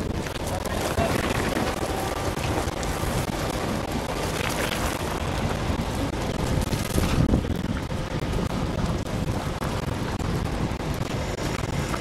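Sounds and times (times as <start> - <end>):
burning car crackling: 0.0 - 12.0
continuous rushing noise: 0.0 - 12.0.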